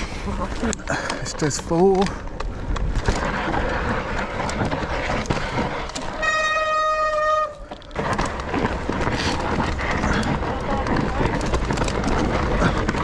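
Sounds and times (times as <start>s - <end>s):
bike tyres rolling on dirt: 0.0s - 13.0s.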